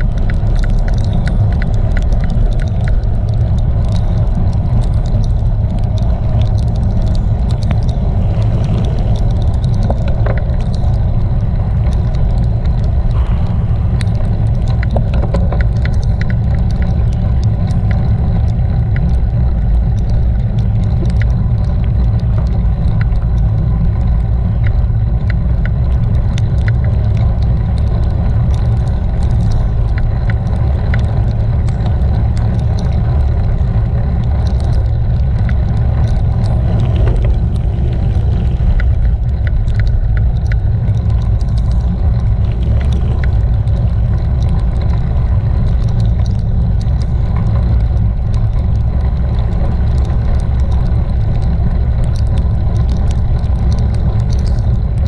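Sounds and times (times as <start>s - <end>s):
light ticks: 0.0s - 55.0s
wind buffeting microphone: 0.0s - 55.0s.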